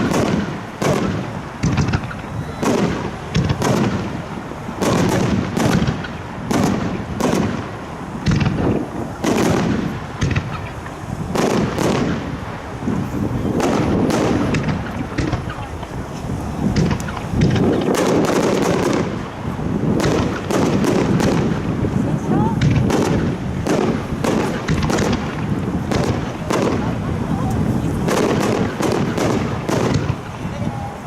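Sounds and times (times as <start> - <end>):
firework shells bursting: 0.0 - 22.0, 22.6 - 30.4
rolling boom and echo: 0.0 - 30.4.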